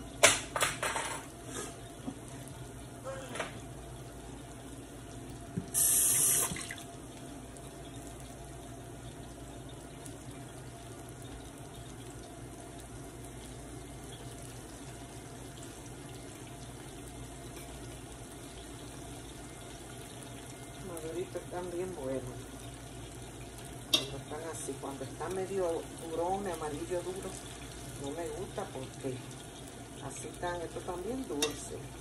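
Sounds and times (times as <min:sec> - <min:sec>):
food deep-frying in oil: 0:00.0 - 0:32.0.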